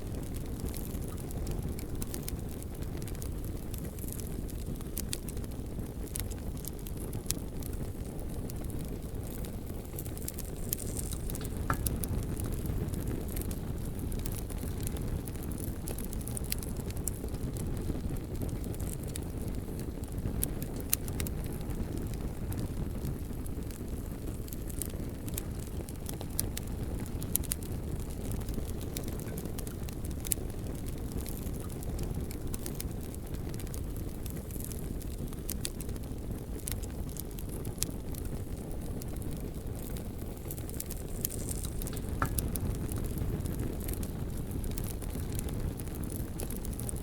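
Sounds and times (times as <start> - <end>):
bonfire crackling and popping: 0.0 - 47.0.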